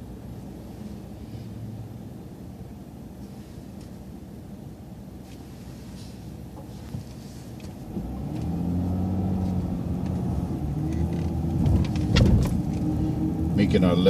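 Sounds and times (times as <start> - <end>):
bus engine accelerating: 0.0 - 14.0.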